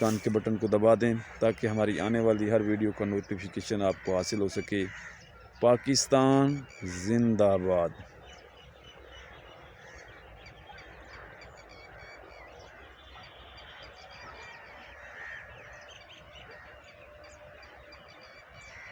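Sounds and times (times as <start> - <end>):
birds chirping: 0.0 - 18.9
outdoor hush: 0.0 - 18.9.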